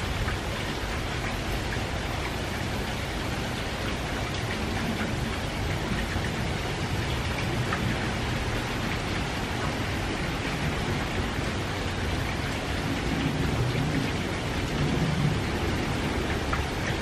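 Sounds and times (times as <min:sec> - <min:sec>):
light rain hiss: 0:00.0 - 0:17.0
rain drop ticks: 0:00.0 - 0:17.0.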